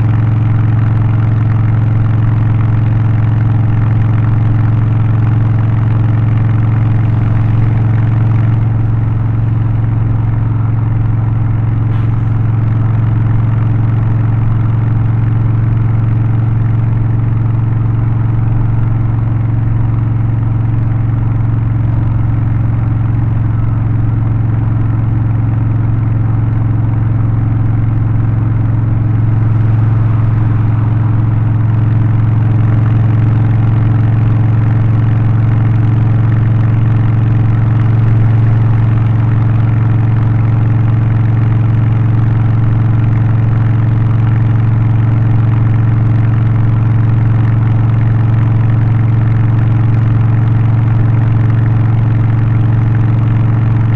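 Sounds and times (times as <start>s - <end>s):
motorcycle engine running steadily: 0.0s - 53.9s.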